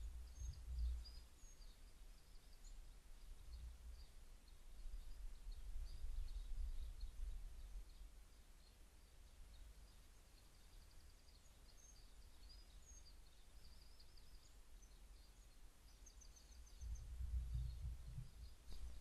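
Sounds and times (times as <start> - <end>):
distant birdsong: 0.0 - 19.0
low steady hum: 0.0 - 19.0.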